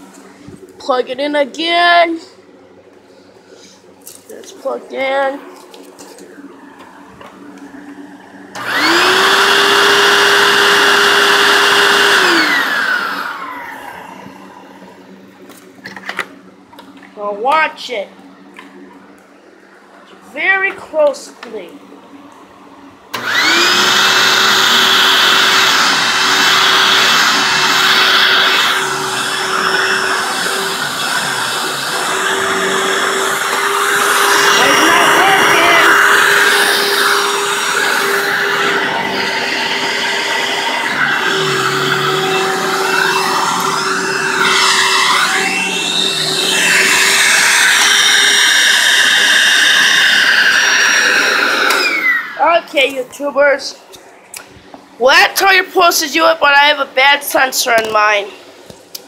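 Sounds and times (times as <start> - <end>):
vacuum cleaner motor whine: 1.9 - 17.1, 18.2 - 52.6.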